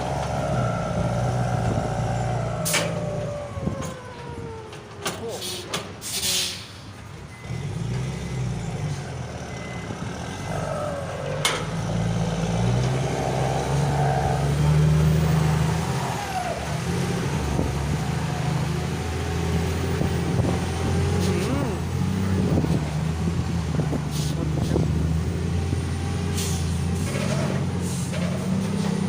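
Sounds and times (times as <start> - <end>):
diesel truck engine running: 0.0 - 6.1, 6.8 - 29.0.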